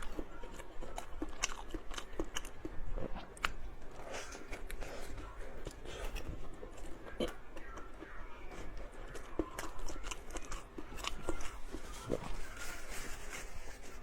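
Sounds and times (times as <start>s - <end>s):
chewing and biting food: 0.0s - 14.0s.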